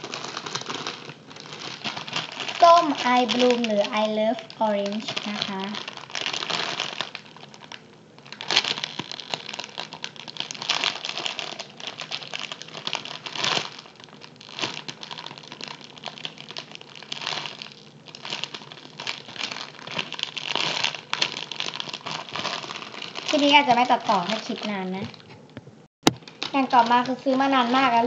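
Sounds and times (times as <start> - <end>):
plastic bag crinkling: 0.0 - 25.5, 26.1 - 28.0.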